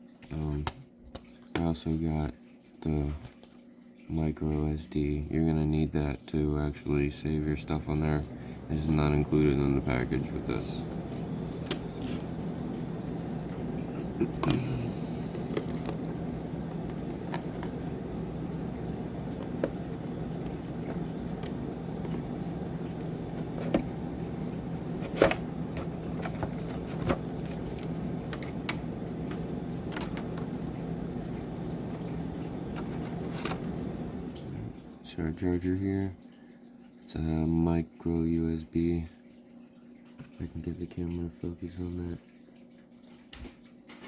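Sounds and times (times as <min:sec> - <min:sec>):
steady low hum: 0:00.0 - 0:43.1.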